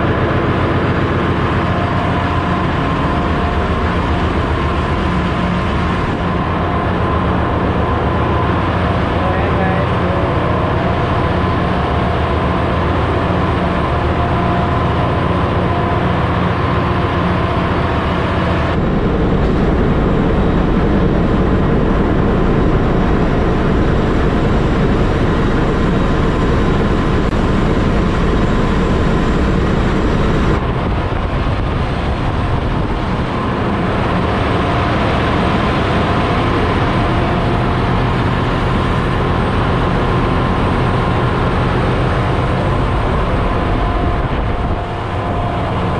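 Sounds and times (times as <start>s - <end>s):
engine room machinery drone: 0.0s - 45.9s
steady tonal hum: 0.0s - 45.9s.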